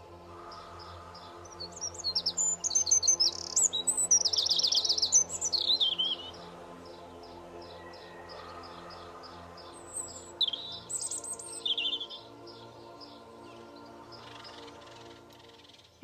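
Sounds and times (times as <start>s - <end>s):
soft background music: 0.0s - 16.0s
songbird chirping and trilling: 0.0s - 16.0s.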